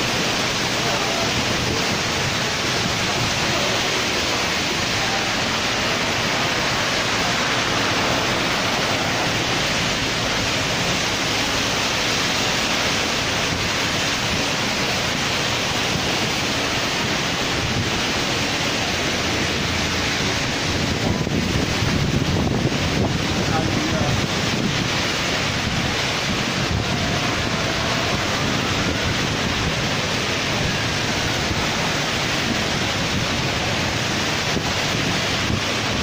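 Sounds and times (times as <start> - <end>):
heavy rain pouring: 0.0 - 36.0.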